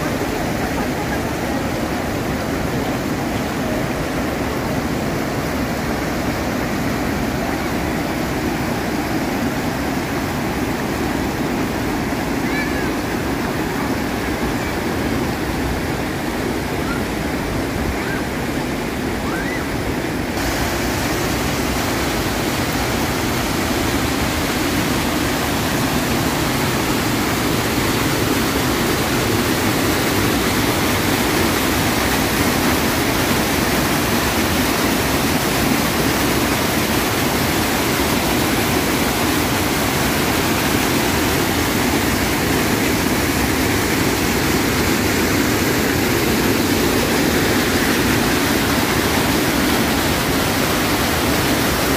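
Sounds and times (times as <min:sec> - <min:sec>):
water rushing over rocks: 0:00.0 - 0:51.9.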